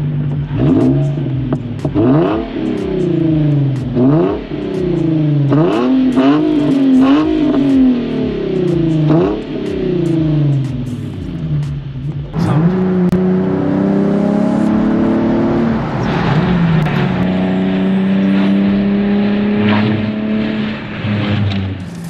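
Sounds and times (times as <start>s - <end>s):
car engine revving through gears: 0.0s - 22.0s.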